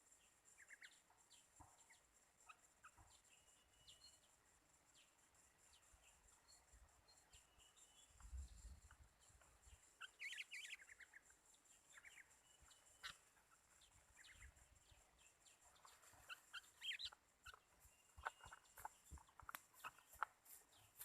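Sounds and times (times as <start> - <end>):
small songbirds chirping: 0.0 - 21.0.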